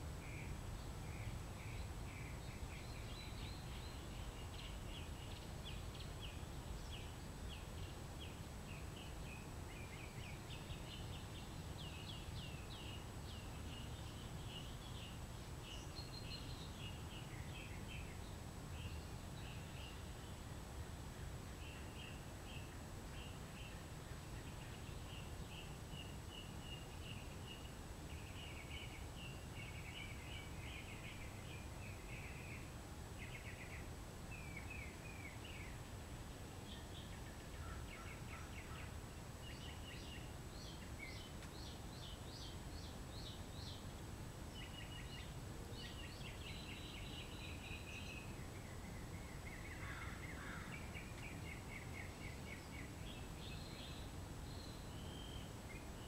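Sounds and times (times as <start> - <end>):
small birds chirping and trilling: 0.2 - 20.8, 21.4 - 56.0.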